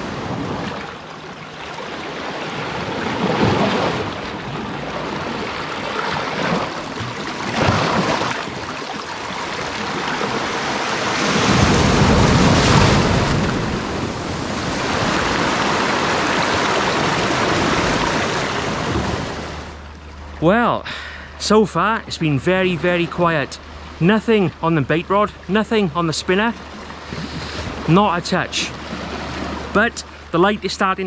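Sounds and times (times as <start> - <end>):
waves breaking over rocks: 0.0 - 20.6, 21.5 - 31.0
surf rushing: 0.0 - 31.0.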